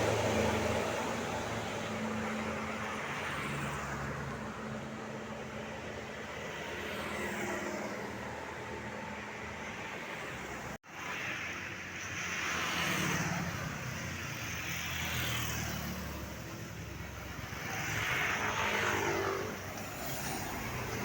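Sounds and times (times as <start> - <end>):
vehicles passing on wet road: 0.0 - 21.0.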